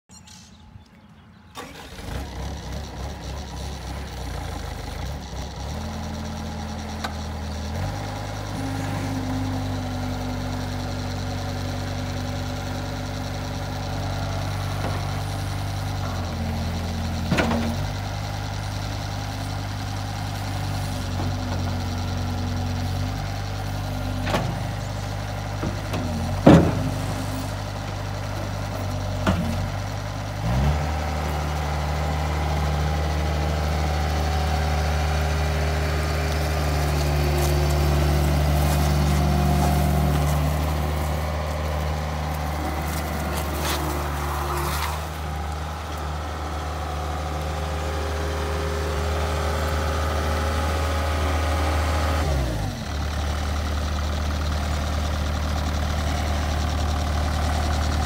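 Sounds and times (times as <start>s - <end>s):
diesel engine idling and revving: 0.0s - 58.0s
loader clanking: 0.1s - 58.0s.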